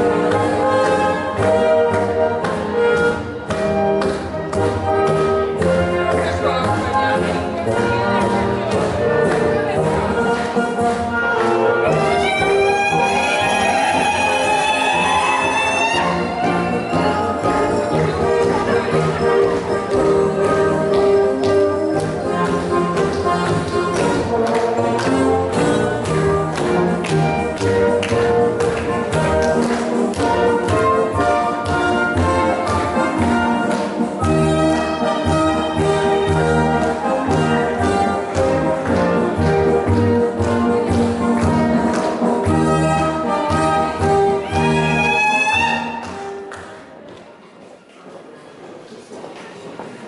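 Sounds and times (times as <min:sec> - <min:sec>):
brass folk dance music: 0:00.0 - 0:47.1.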